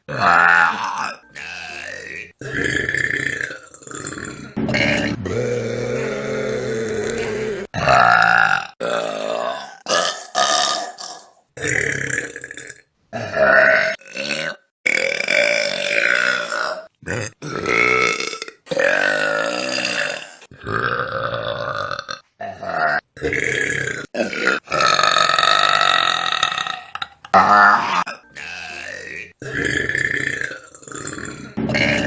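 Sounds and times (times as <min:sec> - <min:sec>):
people burping: 0:00.0 - 0:32.0.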